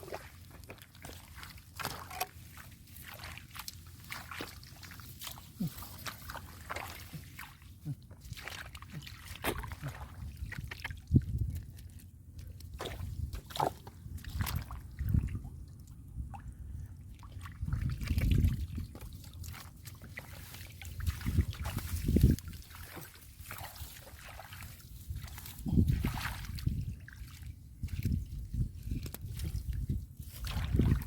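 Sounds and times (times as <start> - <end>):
muddy water sloshing: 0.0 - 31.0
water splashes: 0.0 - 31.0.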